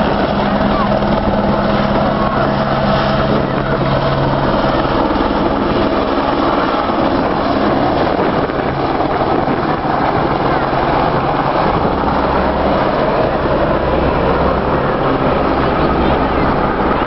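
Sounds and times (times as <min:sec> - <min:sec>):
helicopter turbine and rotor: 0:00.0 - 0:17.0.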